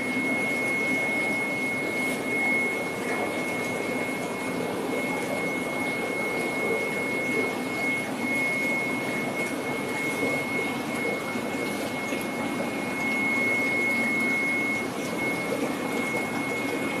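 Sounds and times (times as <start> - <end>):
aquarium water pumps humming: 0.0 - 17.0.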